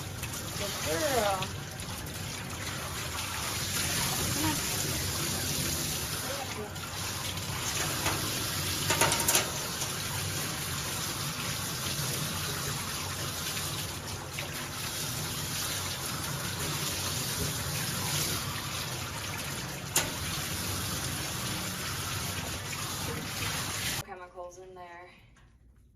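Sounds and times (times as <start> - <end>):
water running from a tap: 0.0 - 24.0.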